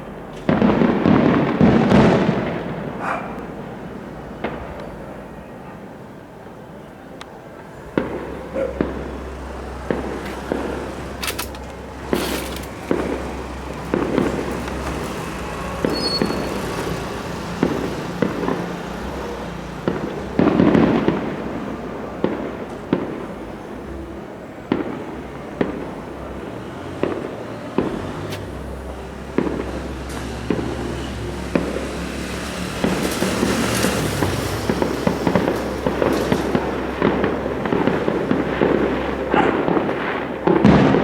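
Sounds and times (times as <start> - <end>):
fireworks bursting with bangs: 0.0 - 41.0.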